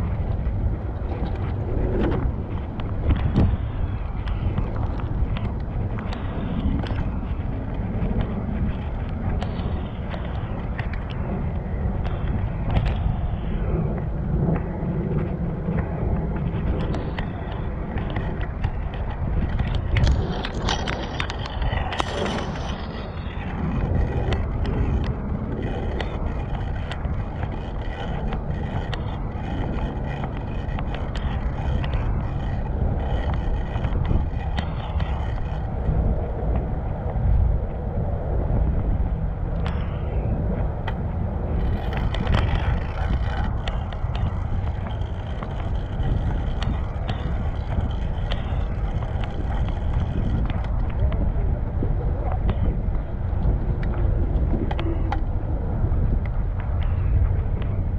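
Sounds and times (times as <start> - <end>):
bicycle clicks and rattles: 0.0 - 57.9
road and wind rumble: 0.0 - 57.9.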